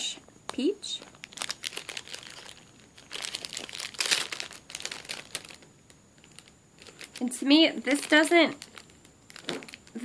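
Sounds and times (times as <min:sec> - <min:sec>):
plastic bag crinkling: 0:00.9 - 0:10.0.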